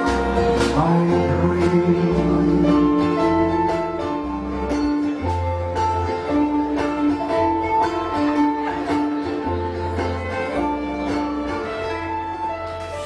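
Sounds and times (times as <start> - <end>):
guitar: 0.0 - 13.0
low bass line: 0.0 - 13.0
violin melody: 0.0 - 13.0.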